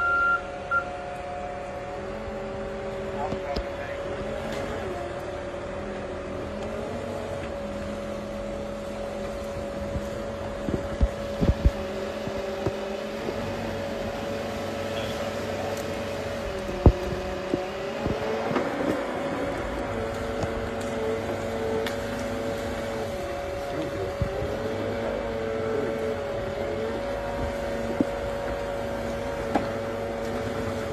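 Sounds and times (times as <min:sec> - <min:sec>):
crawler dozer engine whining: 0:00.0 - 0:30.9.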